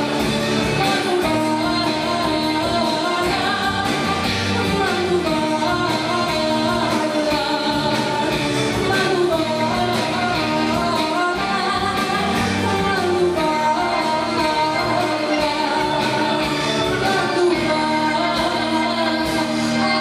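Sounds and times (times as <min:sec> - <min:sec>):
drum kit beat: 0:00.0 - 0:20.0
electric bass: 0:00.0 - 0:20.0
electric guitar: 0:00.0 - 0:20.0
keyboard: 0:00.0 - 0:20.0
woman singing: 0:00.0 - 0:20.0.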